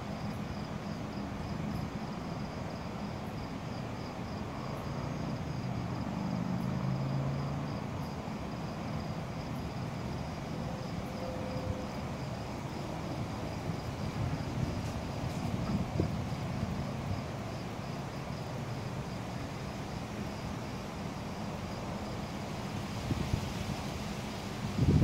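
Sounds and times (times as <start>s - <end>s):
distant locomotive engine rumble: 0.0s - 24.8s
crickets chirping: 0.0s - 25.0s.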